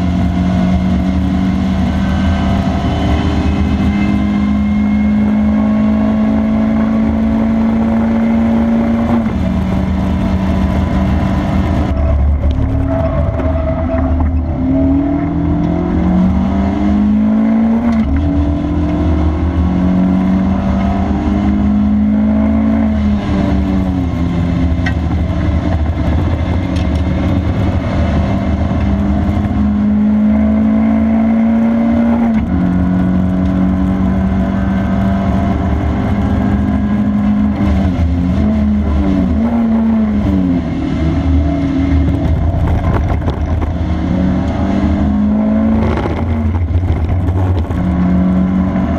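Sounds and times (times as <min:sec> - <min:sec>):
car engine driven hard: 0:00.0 - 0:48.9
road and wind rumble: 0:00.0 - 0:48.9.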